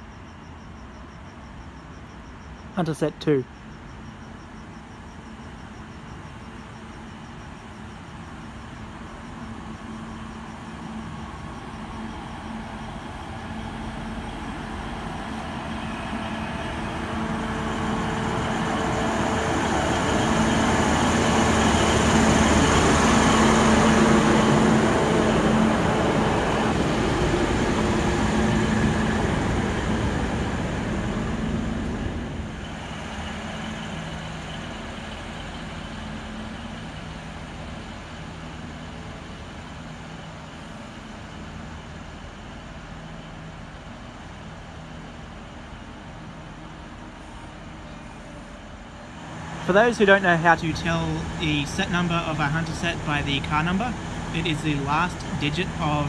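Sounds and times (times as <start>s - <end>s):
diesel train passing: 0.0s - 56.0s
engine hum: 8.8s - 56.0s.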